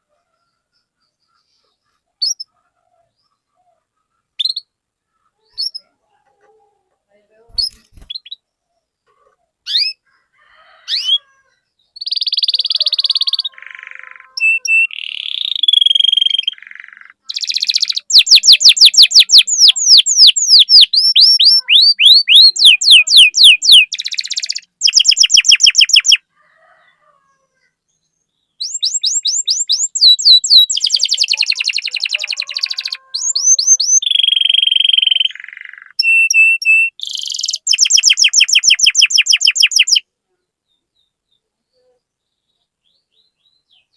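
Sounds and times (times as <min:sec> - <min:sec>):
canary singing trills: 0:00.0 - 0:06.2, 0:07.1 - 0:26.3, 0:27.4 - 0:43.9.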